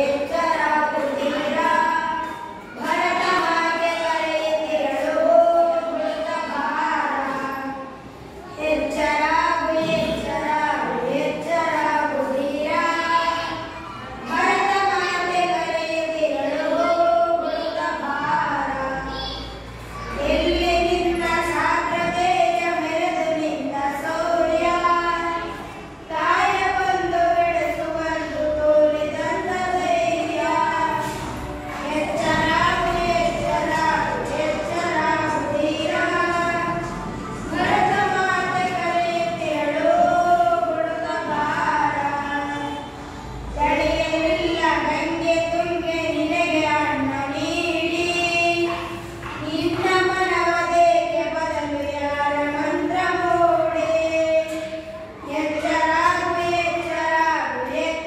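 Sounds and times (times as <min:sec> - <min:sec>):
children singing unaccompanied: 0:00.0 - 0:58.0.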